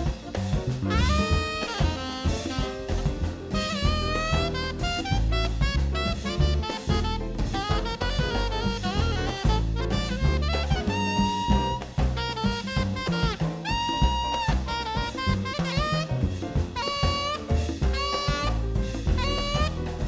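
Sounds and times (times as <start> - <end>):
jazz band playing: 0.0 - 20.0
saxophone runs: 0.9 - 20.0.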